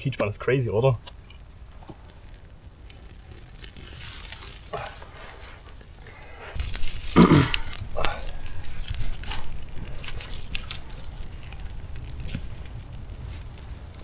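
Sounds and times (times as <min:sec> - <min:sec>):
small fire crackling: 0:00.0 - 0:14.0.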